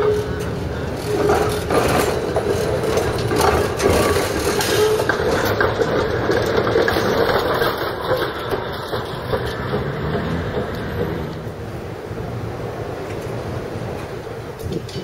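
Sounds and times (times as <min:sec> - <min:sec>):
wheel clicks on rails: 0:00.0 - 0:12.0, 0:12.6 - 0:15.0
streetcar wheels rumbling on rails: 0:00.0 - 0:15.0.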